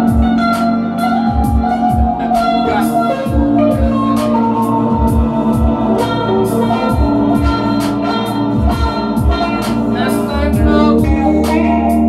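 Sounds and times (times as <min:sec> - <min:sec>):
drum machine beat: 0:00.0 - 0:12.0
sustained synthesizer chords: 0:00.0 - 0:12.0.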